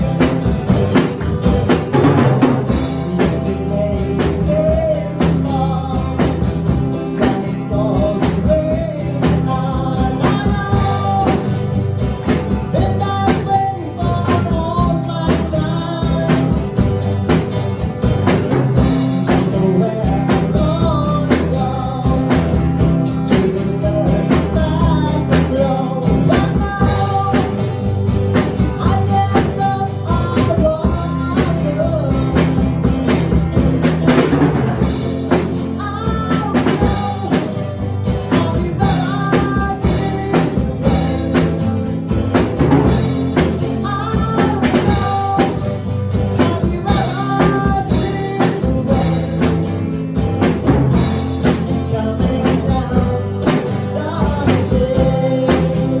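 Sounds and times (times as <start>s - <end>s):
drum kit beat: 0.0s - 56.0s
guitar: 0.0s - 56.0s
person singing: 1.8s - 16.9s, 18.5s - 33.2s, 33.9s - 56.0s.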